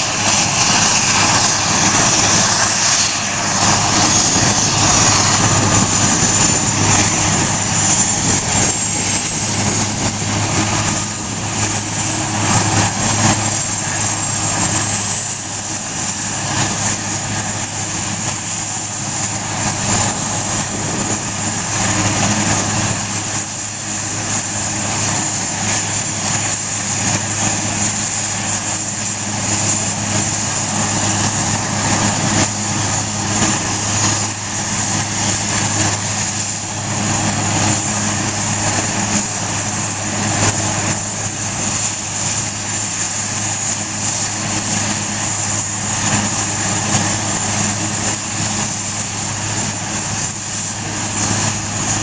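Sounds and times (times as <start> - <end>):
high turbine whine: 0.0 - 52.0
low hum: 0.0 - 52.0
rushing rotor noise: 0.0 - 52.0.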